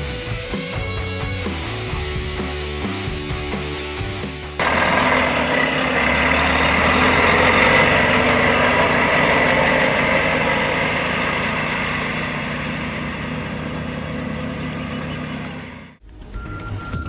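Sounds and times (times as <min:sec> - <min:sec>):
diesel truck pulling away: 0:00.0 - 0:16.0.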